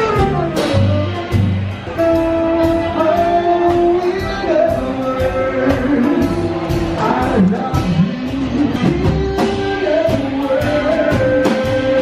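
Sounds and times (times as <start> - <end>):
electric guitar: 0.0 - 12.0
steady drum beat: 0.0 - 12.0
person singing long notes: 2.0 - 12.0.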